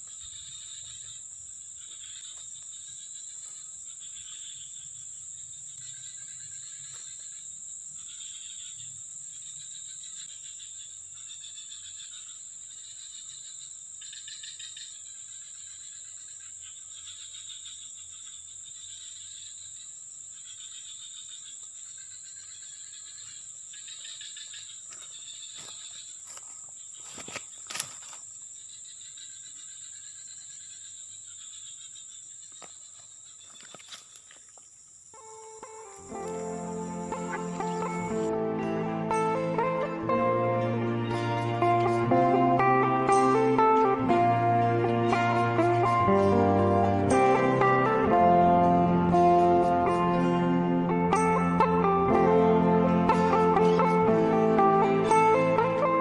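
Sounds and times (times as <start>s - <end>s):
insects chorusing: 0.0s - 51.2s.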